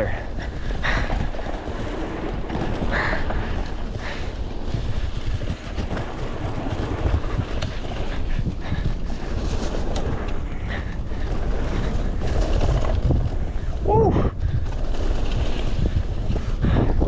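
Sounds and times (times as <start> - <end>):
bike tyre and trail noise: 0.0 - 17.0
wind buffeting microphone: 0.0 - 17.0.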